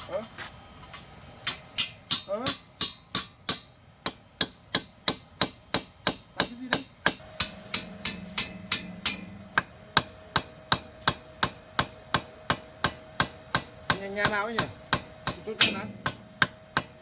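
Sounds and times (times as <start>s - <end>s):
faint steady hum: 0.0s - 17.0s
sharp hammering blows: 1.4s - 17.0s.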